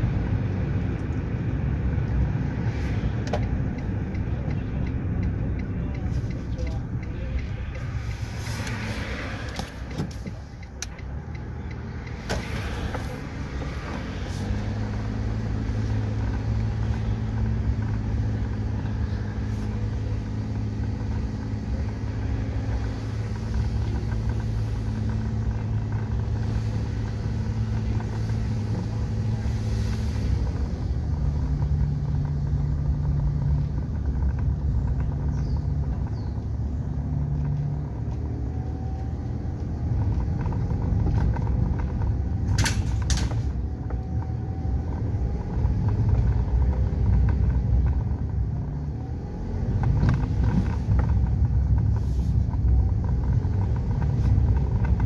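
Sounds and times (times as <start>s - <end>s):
car engine running: 0.0s - 55.0s
tyre and road rumble: 0.0s - 55.0s.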